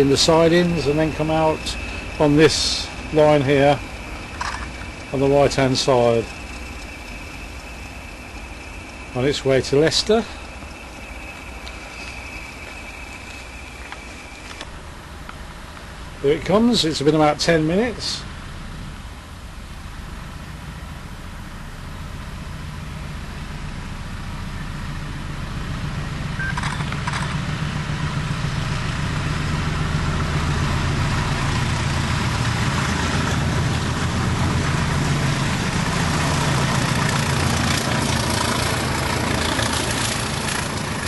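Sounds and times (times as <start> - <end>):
diesel locomotives passing: 0.0 - 41.0.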